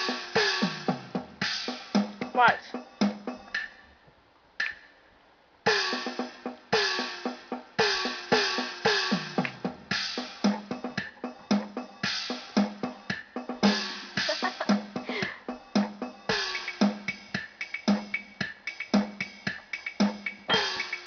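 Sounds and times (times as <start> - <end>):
drum machine beat: 0.0 - 3.8, 4.6 - 4.9, 5.7 - 21.0.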